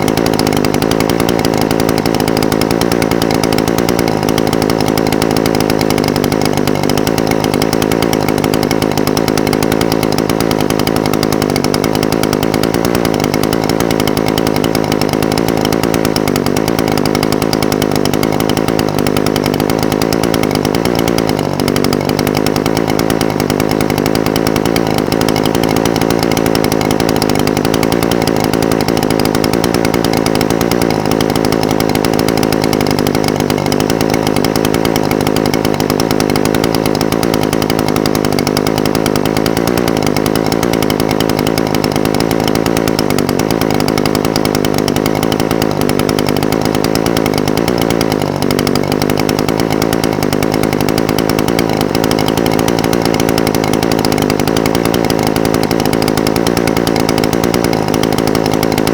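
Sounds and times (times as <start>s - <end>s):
brush cutter engine idling: 0.0s - 58.9s.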